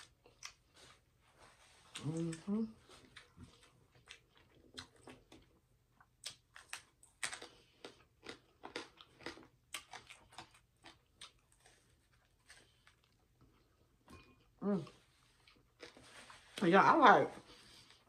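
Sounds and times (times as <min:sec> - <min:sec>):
person chewing food: 0:00.0 - 0:16.6.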